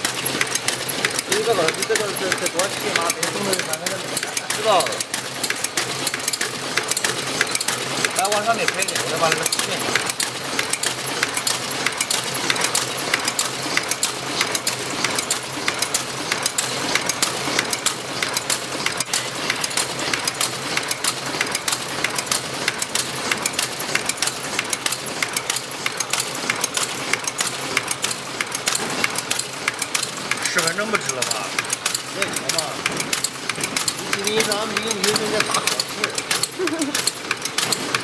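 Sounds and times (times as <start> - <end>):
packaging machine clattering: 0.0 - 38.0.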